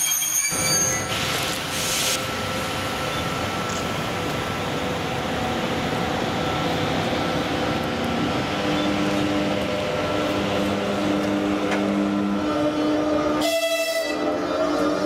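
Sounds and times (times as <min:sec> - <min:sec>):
electric locomotive hum and whine: 0:00.0 - 0:15.0.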